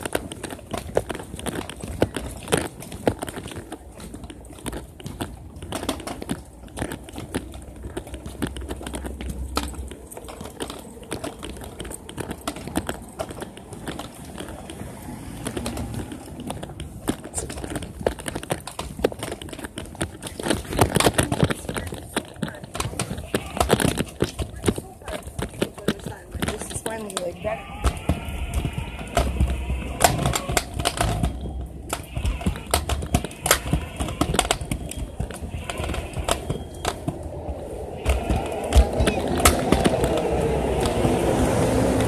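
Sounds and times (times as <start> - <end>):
footsteps on concrete: 0.0 - 42.0.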